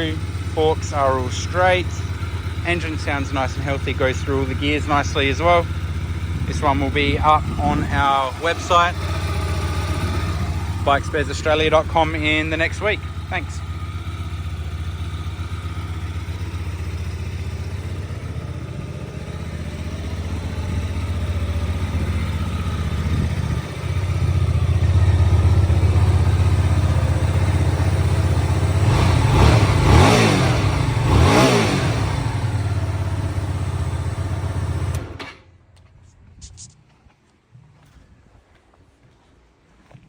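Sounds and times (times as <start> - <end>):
motorcycle engine revving: 0.0 - 35.2.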